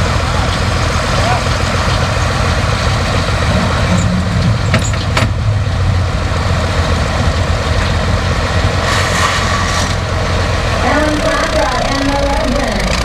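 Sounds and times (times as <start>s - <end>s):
loud tractor engine running: 0.0s - 13.0s.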